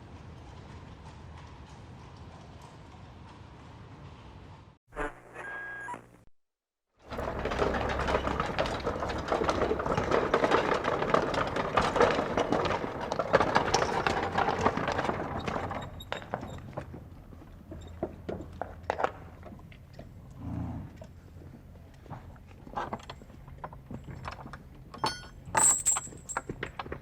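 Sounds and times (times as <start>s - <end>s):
horse-drawn carriage rattling: 0.0s - 4.7s, 7.1s - 20.3s, 20.9s - 27.0s.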